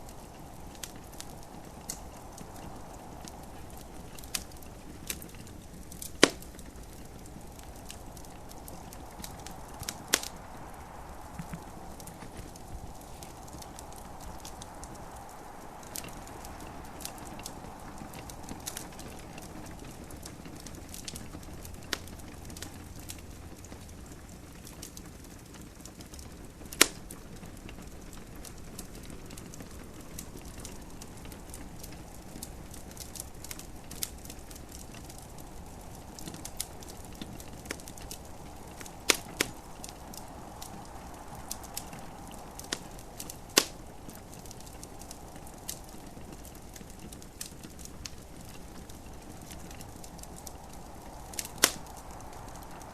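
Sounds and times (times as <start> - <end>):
steady soft hiss: 0.0 - 52.9
wood fire crackling: 0.0 - 52.9.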